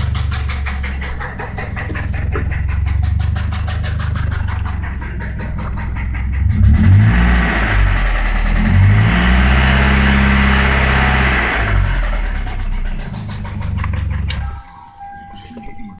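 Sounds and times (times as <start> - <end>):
car engine revving: 0.0 - 14.6
engine knocking at idle: 0.0 - 14.6.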